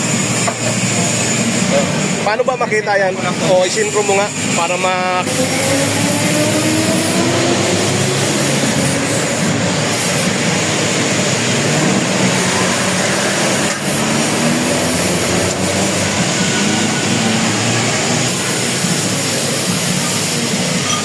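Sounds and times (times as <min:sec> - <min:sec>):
machinery whirring with low hum: 0:00.0 - 0:21.0.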